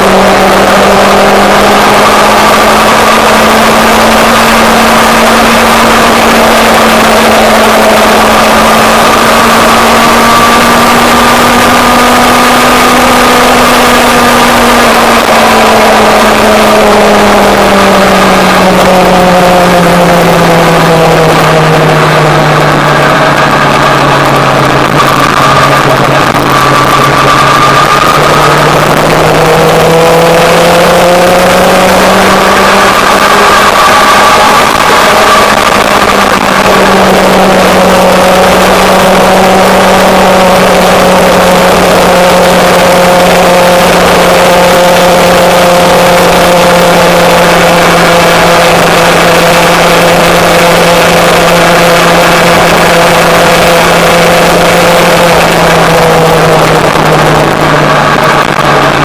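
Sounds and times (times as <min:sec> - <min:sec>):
motorcycle engine cruising: 0:00.0 - 0:59.0
wind and road noise: 0:00.0 - 0:59.0.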